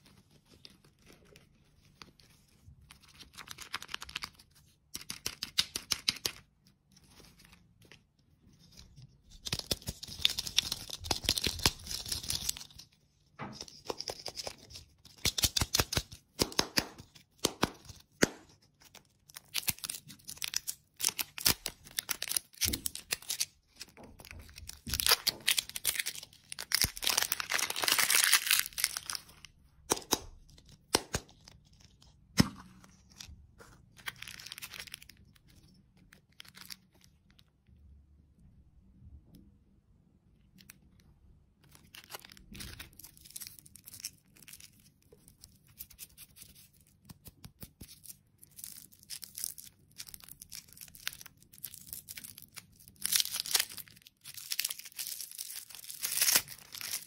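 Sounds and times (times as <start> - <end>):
foil wrapper crinkling and tearing: 2.8 - 6.4, 8.6 - 12.9, 13.6 - 32.4, 33.1 - 37.5, 41.6 - 57.0.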